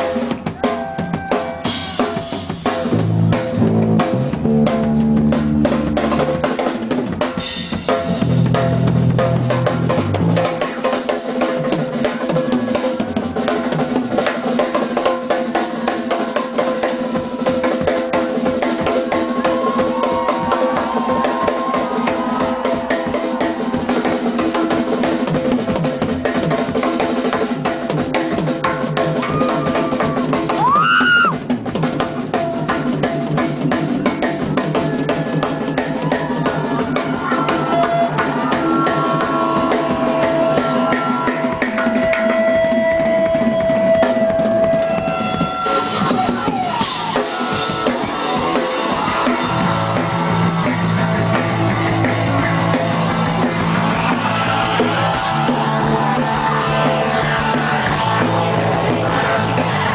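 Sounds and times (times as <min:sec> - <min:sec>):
drum kit playing: 0:00.0 - 0:59.9
rock band jamming: 0:00.0 - 0:59.9.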